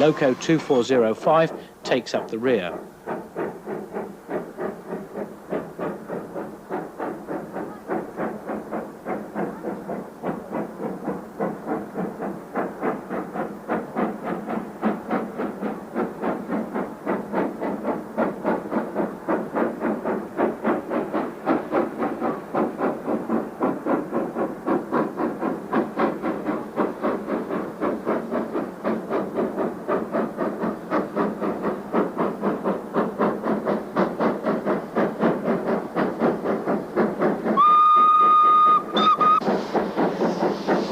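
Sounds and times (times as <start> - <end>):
steam locomotive chuffing: 0.0 - 40.9.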